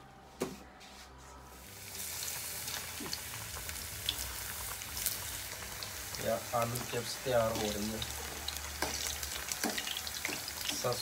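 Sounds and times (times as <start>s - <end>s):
potato slices sizzling in oil: 1.6s - 11.0s.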